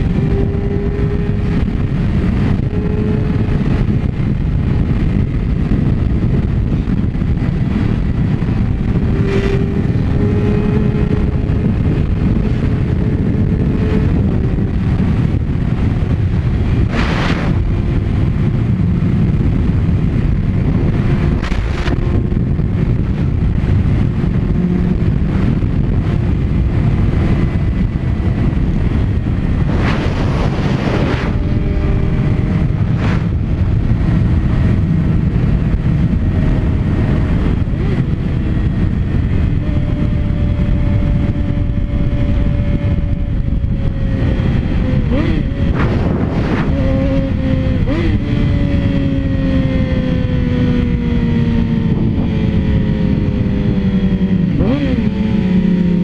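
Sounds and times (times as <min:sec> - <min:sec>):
heavy wind on microphone: 0:00.0 - 0:56.0
motorcycle engine accelerating: 0:00.0 - 0:56.0.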